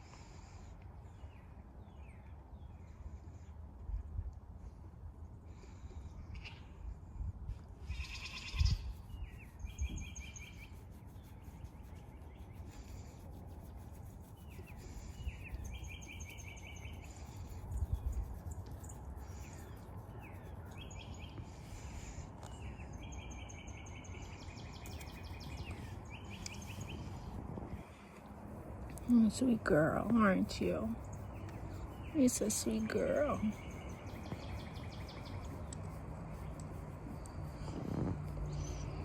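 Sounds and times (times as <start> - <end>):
low steady rumble: 1.8 - 39.0.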